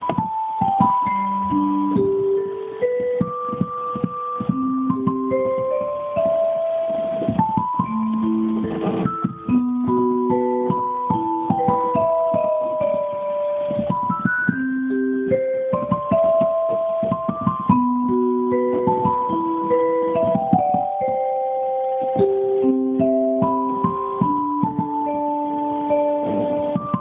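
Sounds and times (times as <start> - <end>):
vibraphone piano melody: 0.0 - 27.0.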